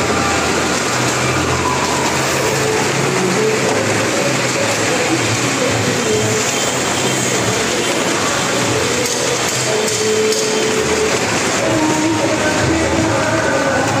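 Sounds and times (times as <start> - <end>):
car engines running hard: 0.0 - 14.0.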